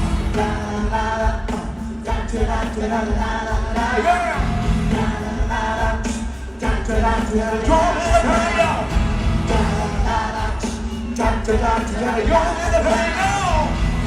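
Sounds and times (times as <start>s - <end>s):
live pop band playing: 0.0s - 14.0s
people singing: 0.0s - 14.0s.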